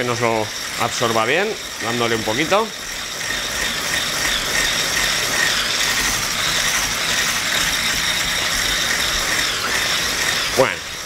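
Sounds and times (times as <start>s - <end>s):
electric hand mixer whirring: 0.0s - 11.0s.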